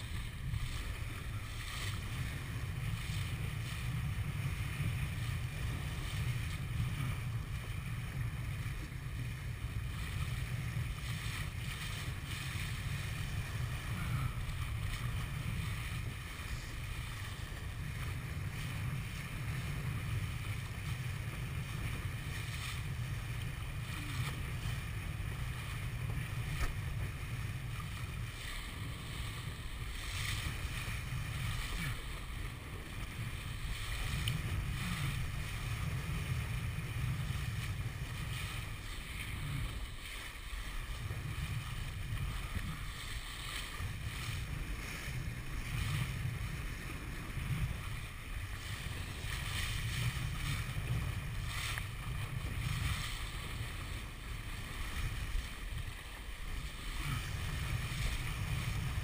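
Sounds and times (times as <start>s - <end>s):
water rushing along a hull: 0.0s - 59.0s
wind buffeting microphone: 0.0s - 59.0s.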